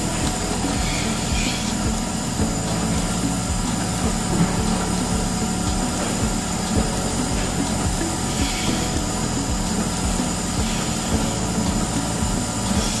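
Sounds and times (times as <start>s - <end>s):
vacuum pump humming and pulsing: 0.0s - 13.0s.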